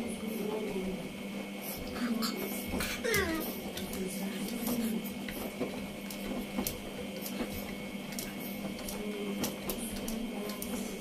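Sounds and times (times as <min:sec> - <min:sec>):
washing machine running: 0:00.0 - 0:11.0.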